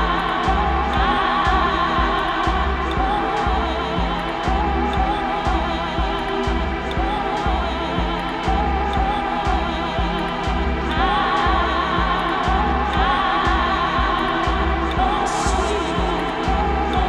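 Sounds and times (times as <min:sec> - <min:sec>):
gospel choir singing: 0:00.0 - 0:17.0
kick drum beat: 0:00.0 - 0:17.0.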